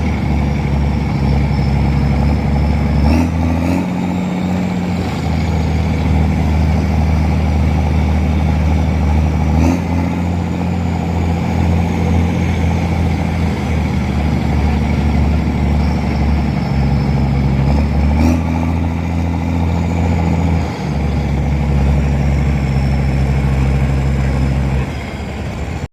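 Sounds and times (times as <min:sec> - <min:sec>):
engine running: 0:00.0 - 0:25.9.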